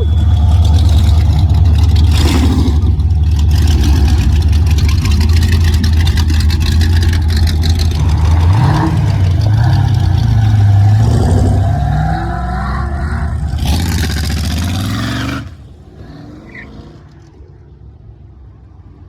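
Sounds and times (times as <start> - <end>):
car engine idling: 0.0 - 18.2.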